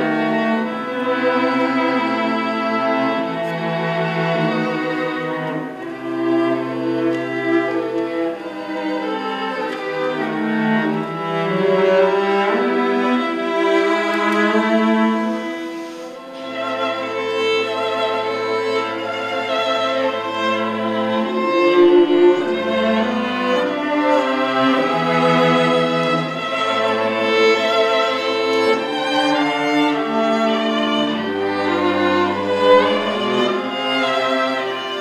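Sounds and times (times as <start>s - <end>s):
violin and cello playing: 0.0s - 35.0s.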